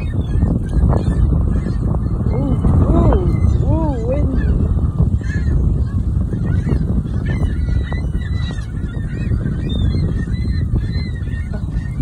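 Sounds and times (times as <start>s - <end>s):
gulls calling: 0.0s - 12.0s
wind buffeting microphone: 0.0s - 12.0s.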